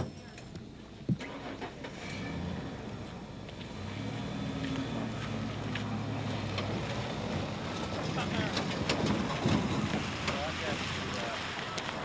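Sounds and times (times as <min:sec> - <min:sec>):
vehicle engine running: 0:01.3 - 0:12.0.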